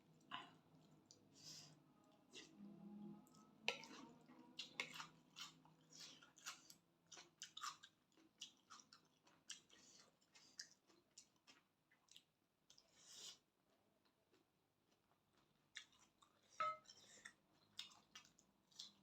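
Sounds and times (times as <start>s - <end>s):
person chewing food: 3.3s - 19.0s.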